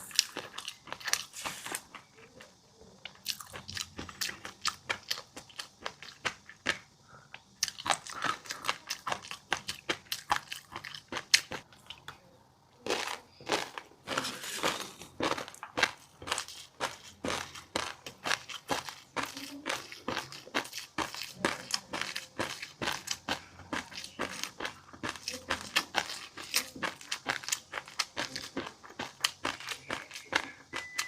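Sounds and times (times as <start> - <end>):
crisp crunches of eating: 0.0 - 31.0.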